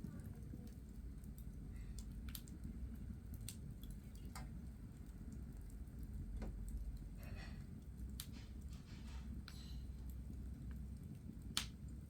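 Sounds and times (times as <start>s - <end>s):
coal fire crackling: 0.0s - 12.0s.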